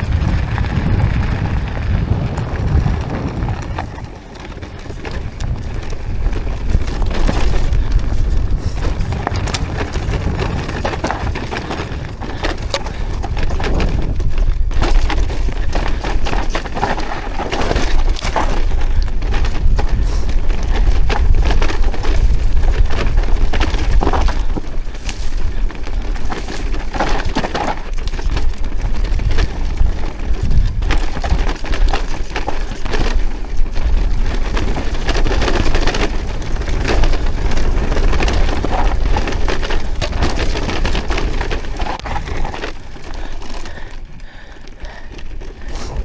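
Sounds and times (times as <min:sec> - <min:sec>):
bike rattling and knocking: 0:00.0 - 0:46.0
tyres crunching over trail: 0:00.0 - 0:46.0
wind buffeting microphone: 0:00.0 - 0:46.0.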